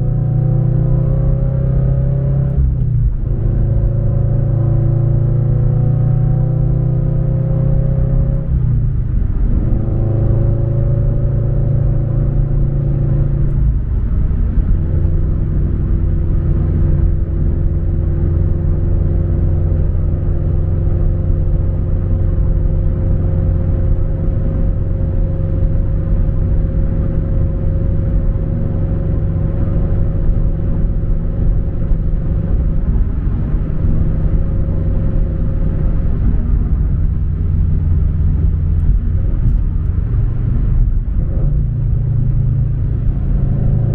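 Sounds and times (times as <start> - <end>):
car engine rumble from inside: 0.0 - 43.9
road noise: 0.0 - 43.9.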